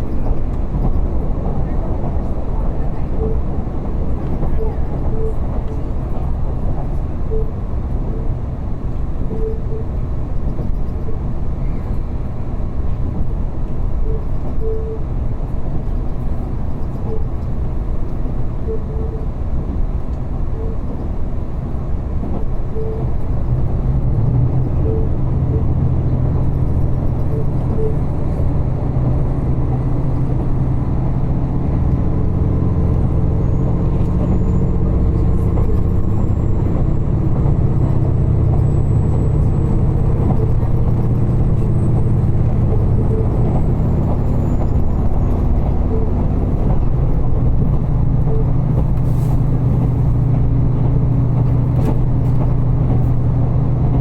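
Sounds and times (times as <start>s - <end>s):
diesel railcar rumbling: 0.0s - 54.0s.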